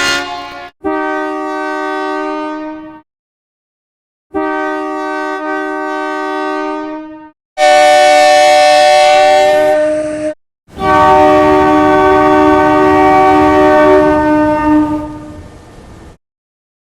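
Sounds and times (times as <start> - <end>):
locomotive air horn blasts: 0.0 - 3.0, 4.3 - 16.2.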